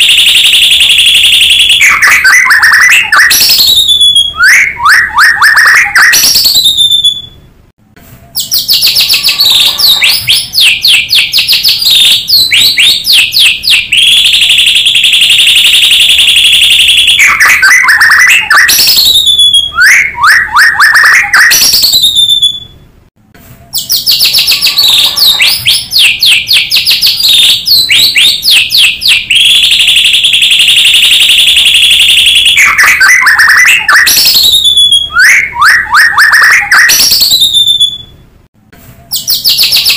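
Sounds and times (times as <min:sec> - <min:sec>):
recorded bird song: 0:00.0 - 0:39.9.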